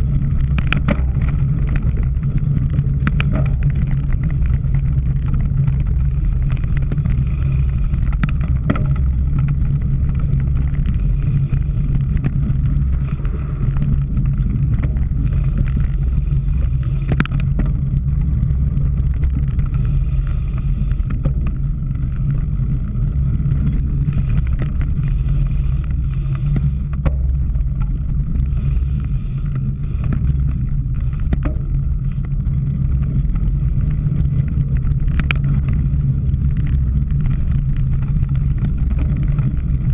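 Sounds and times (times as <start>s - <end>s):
bike tyres on rough ground: 0.0s - 39.9s
sharp clicks and rattles: 0.0s - 39.9s
wind rumble: 0.0s - 39.9s.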